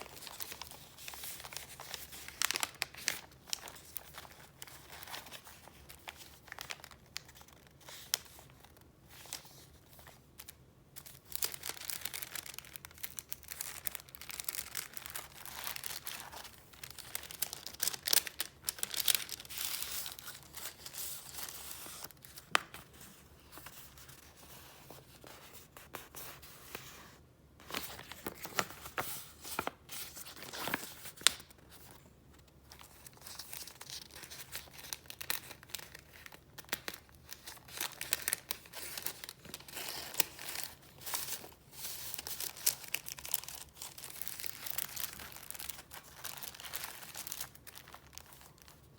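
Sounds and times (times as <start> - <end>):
paper rustling and crinkling: 0.0 - 48.9.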